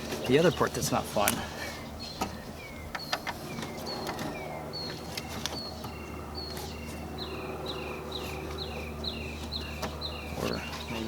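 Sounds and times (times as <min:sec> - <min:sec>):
small bird calling: 0:00.0 - 0:11.0.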